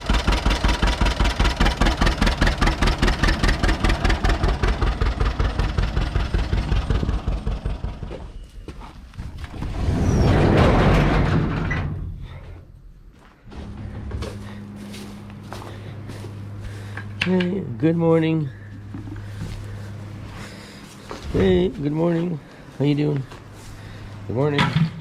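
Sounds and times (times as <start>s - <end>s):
tractor engine throbbing: 0.0s - 8.5s, 9.2s - 22.8s.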